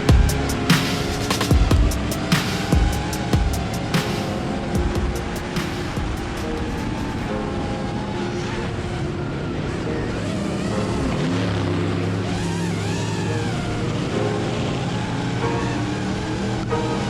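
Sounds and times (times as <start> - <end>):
background music: 0.0 - 17.0
race car engines running: 0.0 - 17.0.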